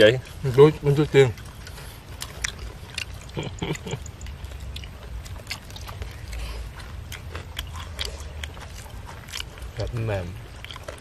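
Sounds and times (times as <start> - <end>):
chewing crispy fried chicken: 0.0 - 11.0
low steady rumble: 0.0 - 11.0.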